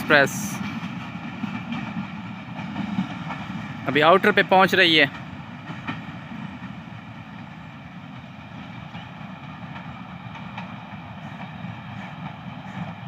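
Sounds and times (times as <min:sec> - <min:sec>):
diesel locomotive approaching: 0:00.0 - 0:13.0
rail noise: 0:00.0 - 0:13.0.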